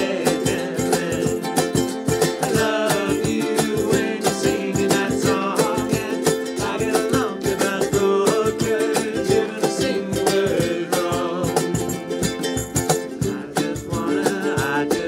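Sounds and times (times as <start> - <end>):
cajon beat: 0.0 - 15.0
men singing: 0.0 - 15.0
strummed ukuleles: 0.0 - 15.0.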